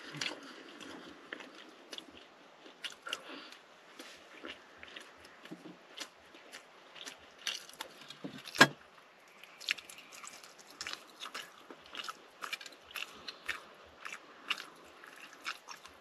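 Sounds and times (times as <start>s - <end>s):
person chewing: 0.0s - 16.0s.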